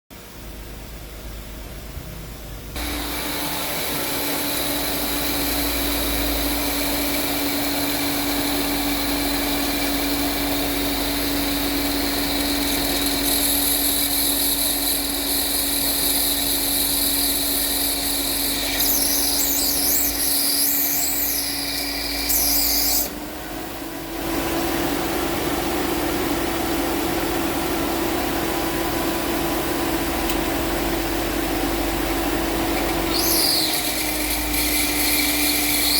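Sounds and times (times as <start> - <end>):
air conditioning whirring: 0.2 - 35.9.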